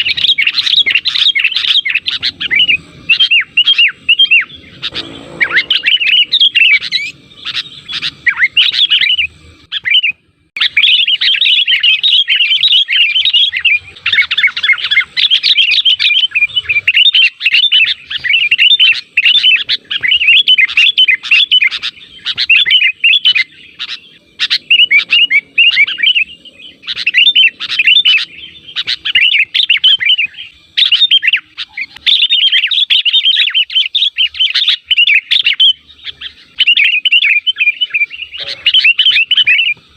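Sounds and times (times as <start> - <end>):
bulbuls calling and chattering: 0.0 - 39.9.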